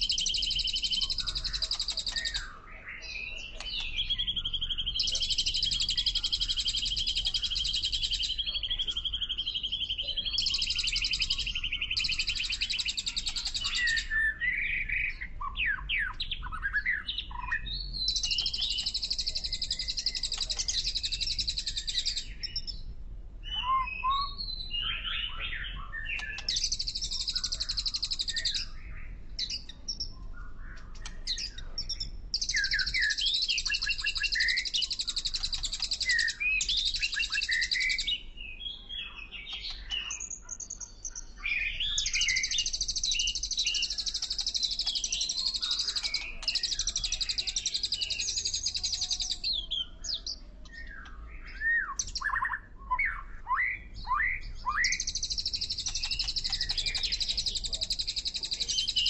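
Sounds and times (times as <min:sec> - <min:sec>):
birds singing trills and chirps: 0:00.0 - 0:59.0.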